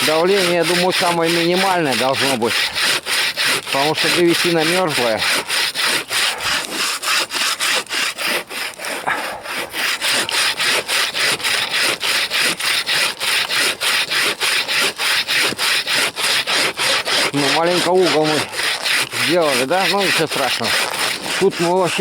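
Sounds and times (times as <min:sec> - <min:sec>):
bow saw cutting wood: 0:00.0 - 0:22.0.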